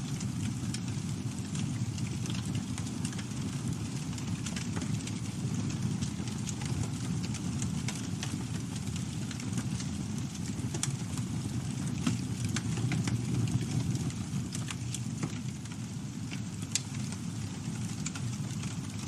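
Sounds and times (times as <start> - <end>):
campfire crackling and popping: 0.0 - 19.0
sharp fire snaps: 0.0 - 19.0.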